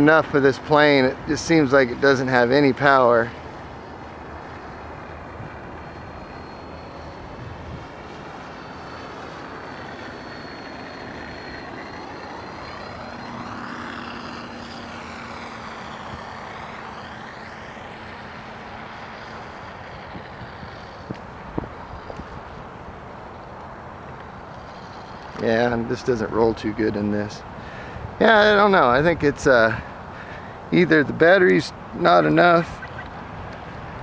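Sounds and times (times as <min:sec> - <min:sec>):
model airplane propeller drone: 0:00.0 - 0:34.0.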